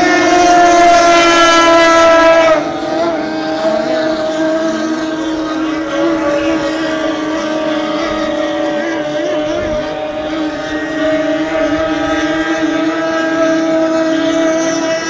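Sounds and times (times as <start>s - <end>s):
powerboat engine passing: 0.0s - 15.0s.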